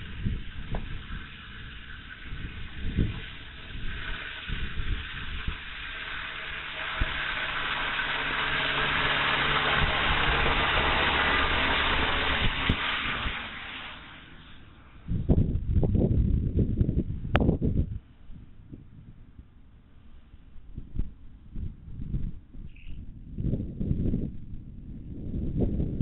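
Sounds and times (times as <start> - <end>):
wind buffeting microphone: 0.0 - 13.6, 15.0 - 19.2, 20.6 - 26.0.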